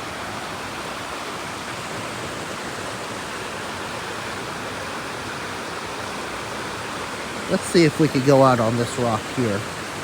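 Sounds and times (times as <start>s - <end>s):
flowing creek water: 0.0s - 10.0s.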